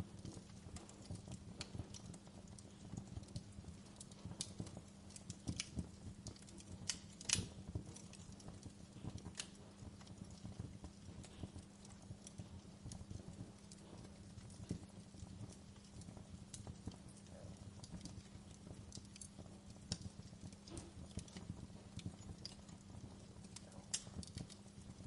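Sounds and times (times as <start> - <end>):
fire crackling and popping: 0.0 - 25.0
steady low hum: 0.0 - 25.0.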